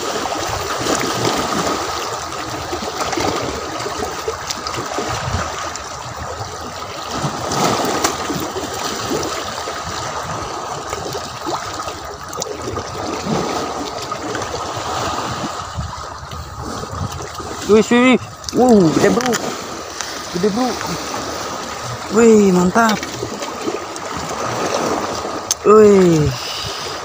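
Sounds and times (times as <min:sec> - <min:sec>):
small waves lapping on rocks: 0:00.0 - 0:27.0.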